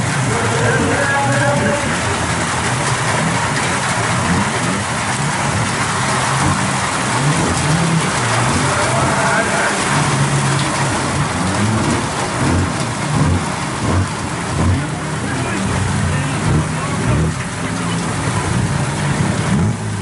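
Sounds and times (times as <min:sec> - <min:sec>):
car engine revving: 0:00.0 - 0:20.0
rain hiss: 0:00.0 - 0:20.0.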